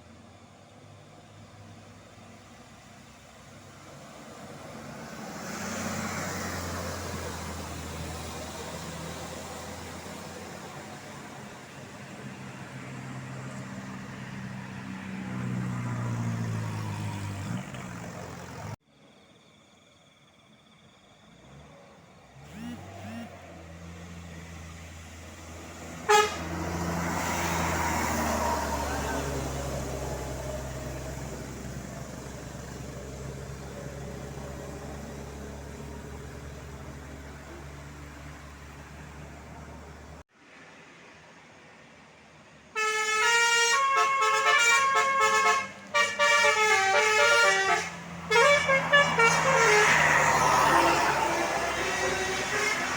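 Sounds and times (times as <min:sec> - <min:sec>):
heavy vehicle engine droning: 0:00.0 - 0:19.2, 0:20.7 - 0:40.3, 0:44.8 - 0:52.9.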